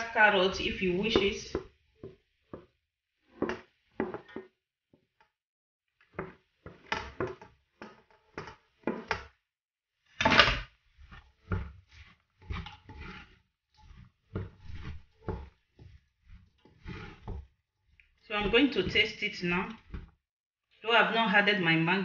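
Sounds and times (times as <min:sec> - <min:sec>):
wooden spoon stirring in metal pot: 0:00.0 - 0:20.3.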